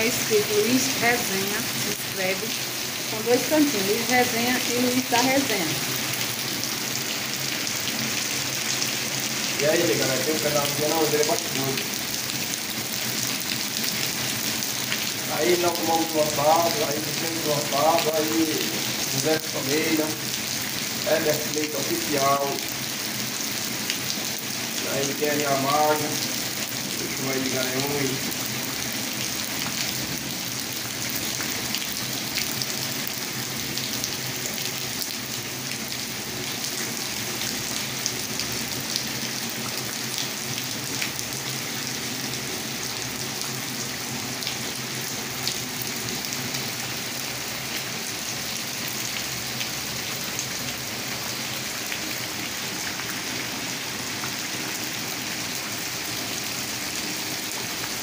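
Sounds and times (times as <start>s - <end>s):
heavy rain on concrete: 0.0s - 58.0s.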